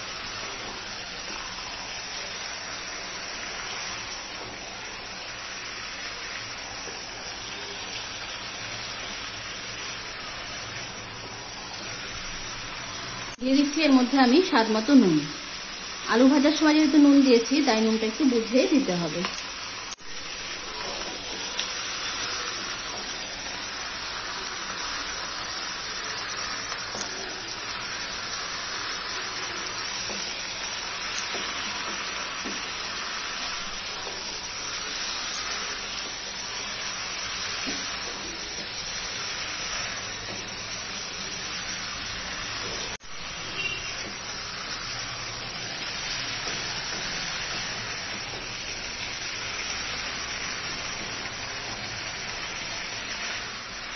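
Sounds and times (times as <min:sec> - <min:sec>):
meat sizzling in hot oil: 0:00.0 - 0:53.9.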